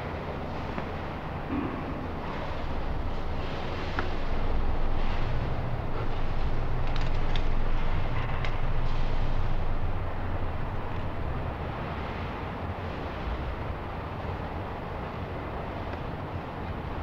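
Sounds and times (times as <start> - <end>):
low rumble with tape hiss: 0.0 - 17.0.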